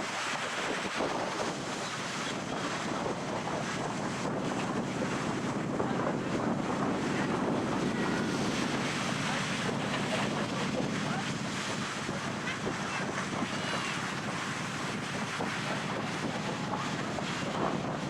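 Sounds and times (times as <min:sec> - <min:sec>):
ocean surf on beach: 0:00.0 - 0:18.0
wind buffeting microphone: 0:00.0 - 0:18.0.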